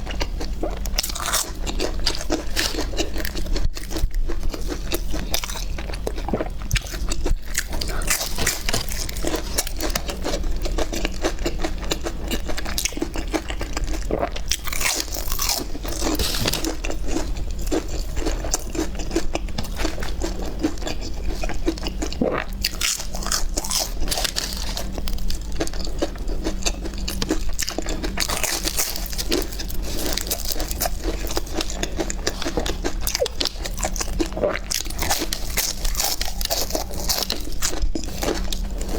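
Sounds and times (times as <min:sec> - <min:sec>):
person chewing crisp food: 0:00.0 - 0:38.9.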